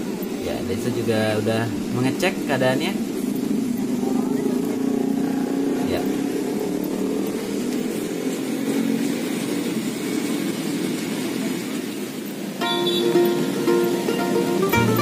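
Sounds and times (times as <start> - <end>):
toy train running on track: 0.0 - 15.0.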